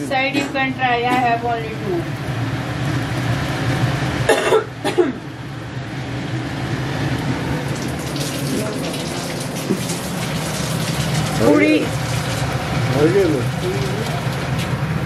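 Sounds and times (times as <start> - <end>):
food deep-frying in hot oil: 1.6 - 4.3, 5.3 - 15.0.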